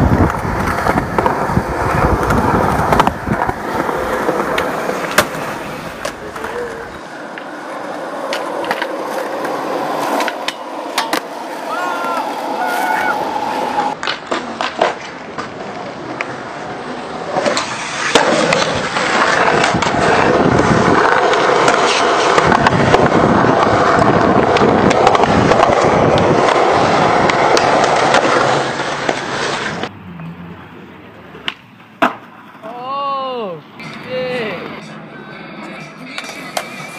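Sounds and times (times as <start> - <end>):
skateboard clacks: 0.0 - 16.5, 17.2 - 29.9, 31.3 - 32.8, 35.5 - 36.9
skateboard wheels rolling on concrete: 0.0 - 36.9.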